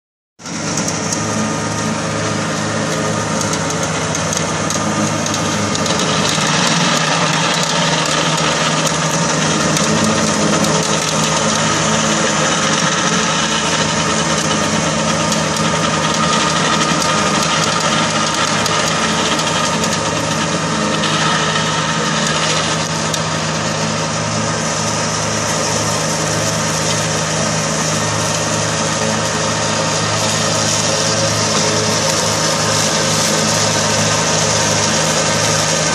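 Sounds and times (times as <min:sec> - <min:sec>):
rotary mower cutting grass: 0:00.4 - 0:35.9
tractor diesel engine running: 0:00.4 - 0:35.9.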